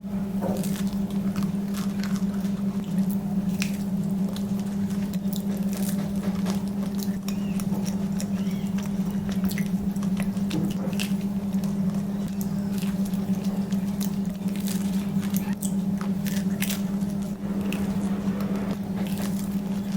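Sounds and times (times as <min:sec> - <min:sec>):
steady low hum: 0:00.0 - 0:19.9
person chewing bread: 0:00.1 - 0:19.9.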